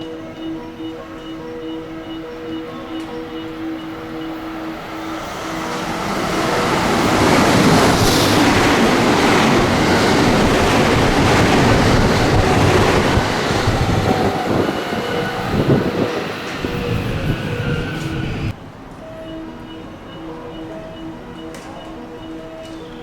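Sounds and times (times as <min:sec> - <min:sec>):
train passing at speed: 0:00.0 - 0:21.5.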